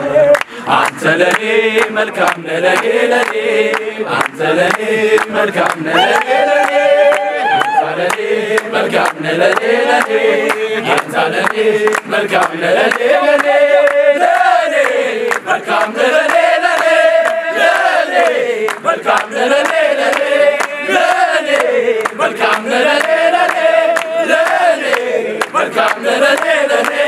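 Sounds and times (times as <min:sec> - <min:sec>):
men singing a chant-like song: 0:00.0 - 0:27.0
rhythmic hand clapping: 0:00.0 - 0:27.0.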